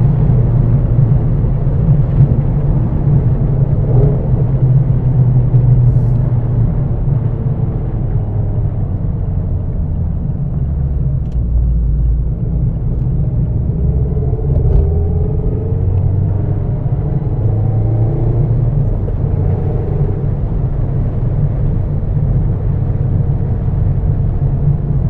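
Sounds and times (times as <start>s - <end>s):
car engine accelerating: 0.0s - 25.0s
road noise: 0.0s - 25.0s.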